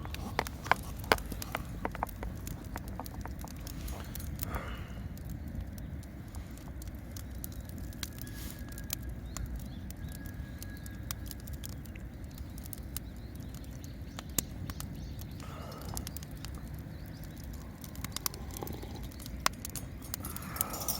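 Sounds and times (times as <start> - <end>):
campfire crackling and popping: 0.0 - 20.9
steady low rumble: 0.0 - 20.9.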